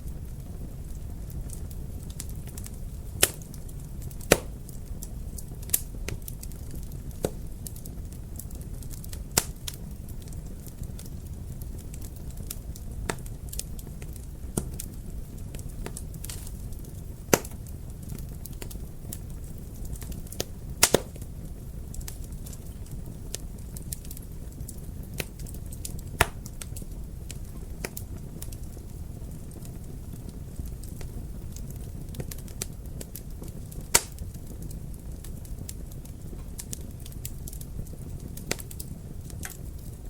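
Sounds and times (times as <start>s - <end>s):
fire pops: 0.0s - 40.0s
wood fire crackling: 0.0s - 40.0s.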